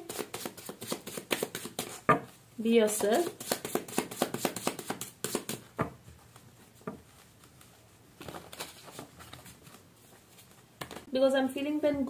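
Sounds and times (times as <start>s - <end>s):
cards being shuffled: 0.0s - 2.2s, 3.0s - 11.1s.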